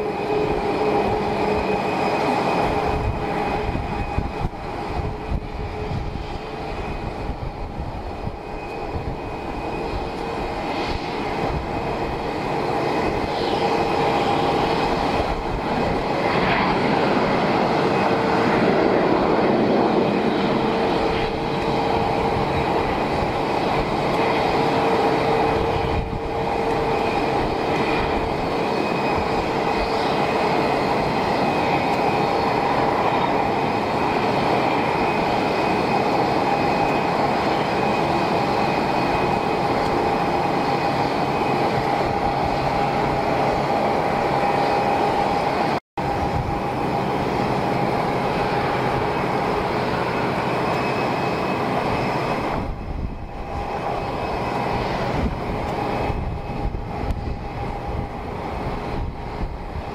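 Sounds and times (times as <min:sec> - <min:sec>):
jet engines running at low power: 0:00.0 - 0:59.9.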